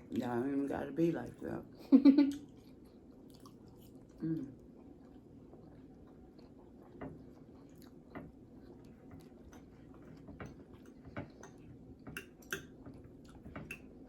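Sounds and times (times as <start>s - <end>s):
people chewing: 2.2s - 14.0s.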